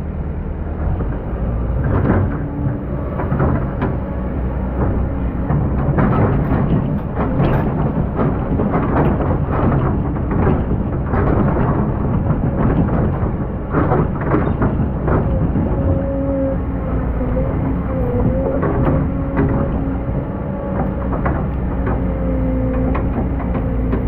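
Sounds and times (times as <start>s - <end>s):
excavator engine rumbling: 0.0s - 24.0s.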